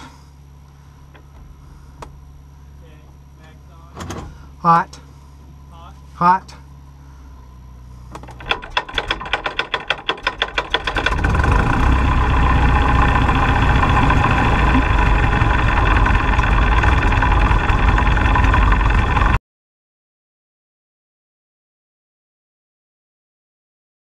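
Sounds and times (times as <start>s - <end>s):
airplane engine starting and idling: 0.0s - 19.4s.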